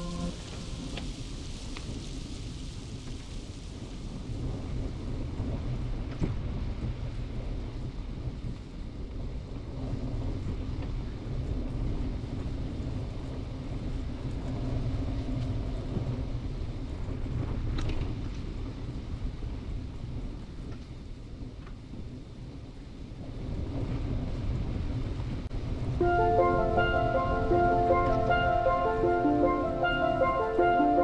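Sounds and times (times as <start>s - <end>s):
bicycle tyres on snow: 0.0s - 25.4s.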